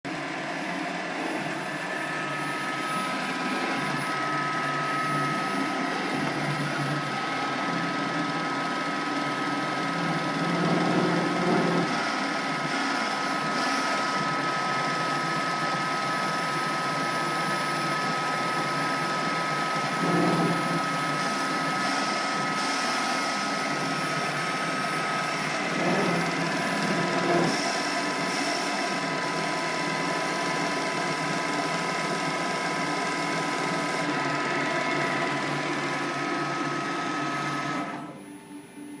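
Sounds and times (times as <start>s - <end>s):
lathe motor whine: 0.1s - 39.0s.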